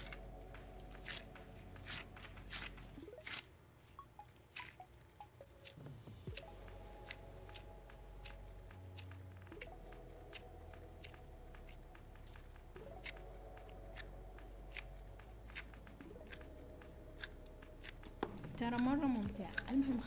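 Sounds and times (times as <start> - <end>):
sticky clay squishing: 0.0 - 20.0.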